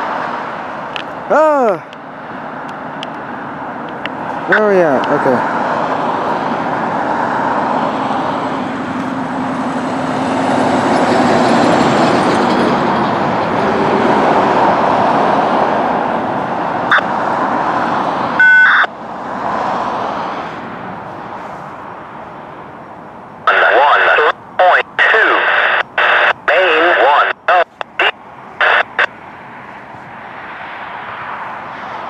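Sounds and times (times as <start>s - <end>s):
vehicle noise rushing: 0.0s - 32.0s.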